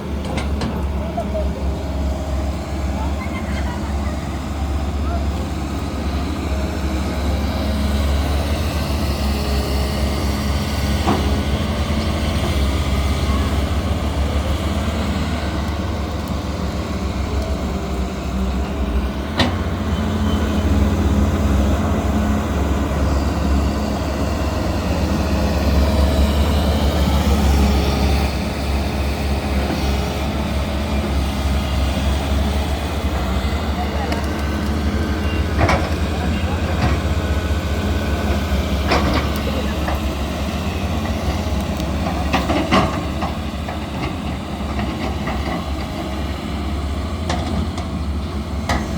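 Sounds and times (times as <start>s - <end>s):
excavator diesel engines running: 0.0s - 48.9s.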